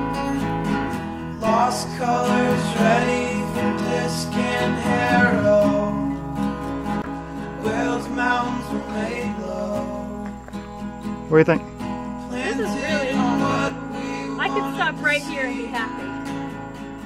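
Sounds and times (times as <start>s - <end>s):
strummed acoustic guitar song: 0.0s - 17.0s.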